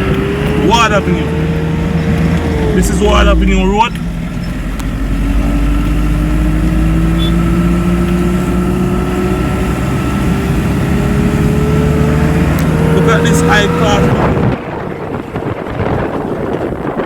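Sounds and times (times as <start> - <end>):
car engine accelerating: 0.0 - 17.0
road noise: 0.0 - 17.0.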